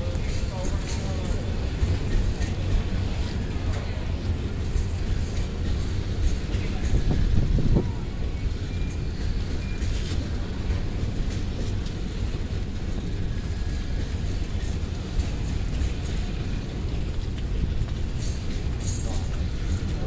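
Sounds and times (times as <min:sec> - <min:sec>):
freight train rumbling on rails: 0:00.0 - 0:20.0.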